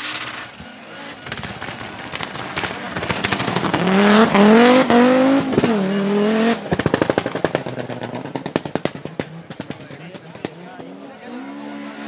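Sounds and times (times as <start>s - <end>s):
exhaust pops and crackles: 0.0s - 11.3s
rally car engine revving: 0.0s - 12.0s.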